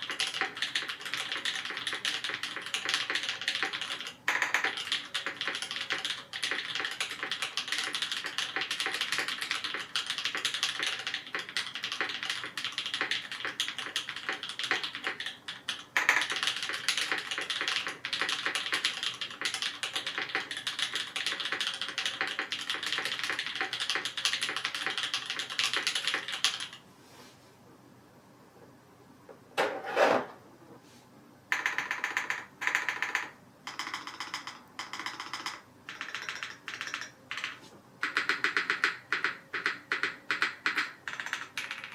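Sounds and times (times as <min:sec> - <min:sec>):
fast mechanical keyboard typing: 0:00.0 - 0:26.8, 0:31.5 - 0:41.9.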